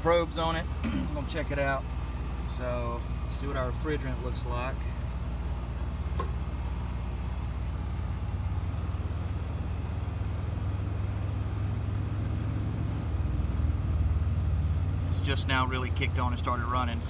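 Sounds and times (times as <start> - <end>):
air conditioner unit humming: 0.0 - 17.0.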